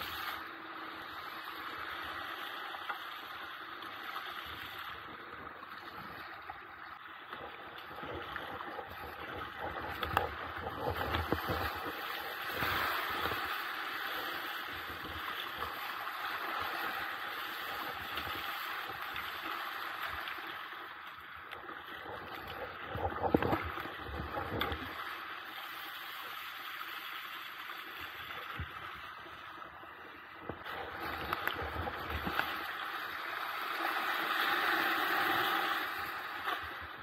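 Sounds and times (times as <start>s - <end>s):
water rushing and splashing: 0.0s - 37.0s.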